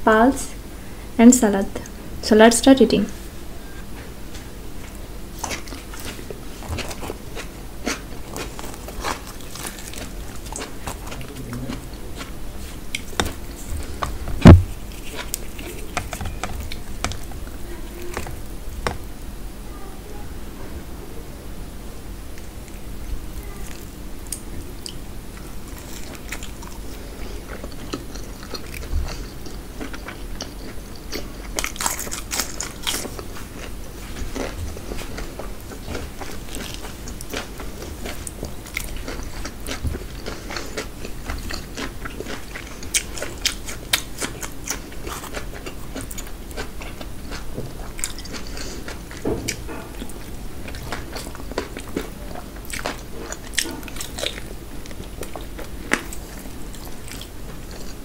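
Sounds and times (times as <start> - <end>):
person chewing food: 4.8 - 19.2, 22.3 - 58.0.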